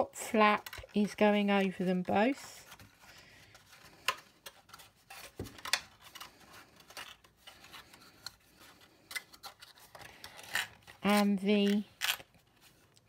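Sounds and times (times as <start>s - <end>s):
card crackling and rubbing: 0.4s - 13.0s.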